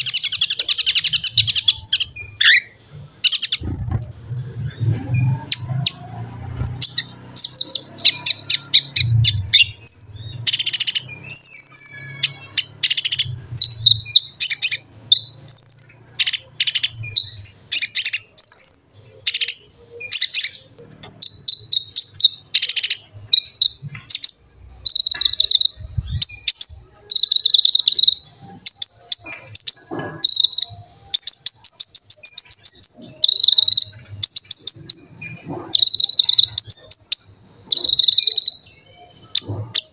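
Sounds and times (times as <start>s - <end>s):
sunbird singing: 0.0s - 3.9s, 4.6s - 39.9s.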